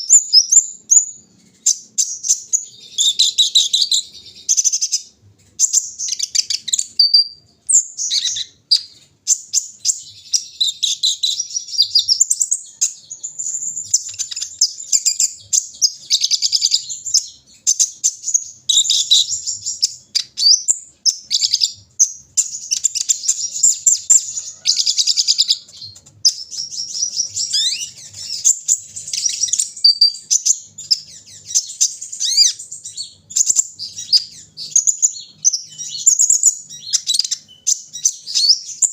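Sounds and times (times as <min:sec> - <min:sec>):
bird singing high trills: 0:00.0 - 0:38.9.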